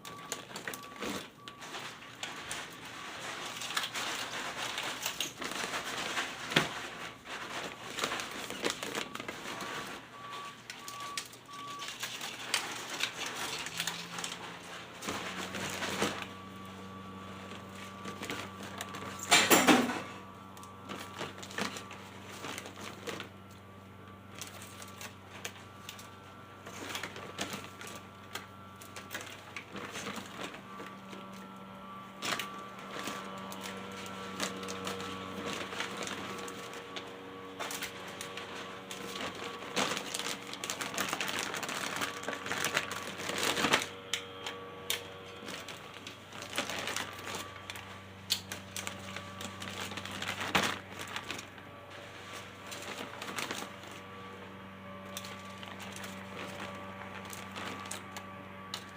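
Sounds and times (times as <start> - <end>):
small hard objects clattering: 0.0 - 23.6, 24.2 - 58.9.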